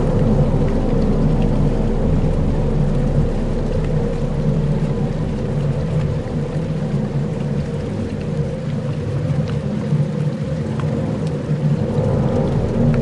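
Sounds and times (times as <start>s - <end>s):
low droning tones: 0.0s - 13.0s
rain-like hiss and rumble: 0.0s - 13.0s
faint ticks: 2.4s - 13.0s.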